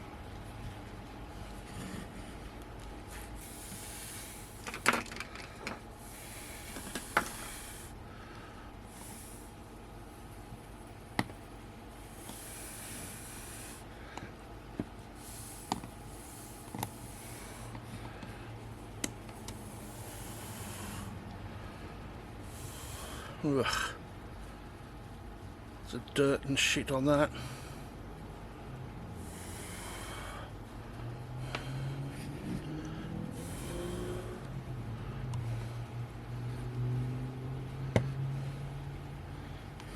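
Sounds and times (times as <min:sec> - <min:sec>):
steady low hiss: 0:00.0 - 0:32.1.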